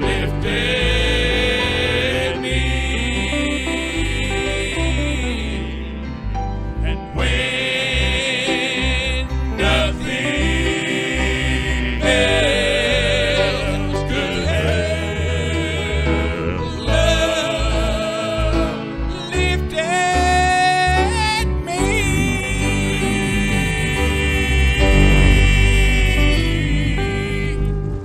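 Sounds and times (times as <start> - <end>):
gospel hymn singing: 0.0 - 28.0
instrumental accompaniment: 0.0 - 28.0.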